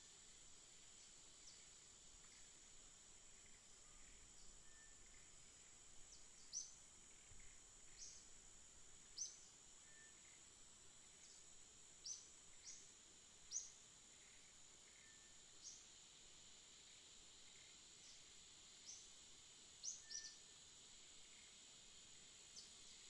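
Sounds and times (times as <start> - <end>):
high-pitched background hiss: 0.0 - 23.0.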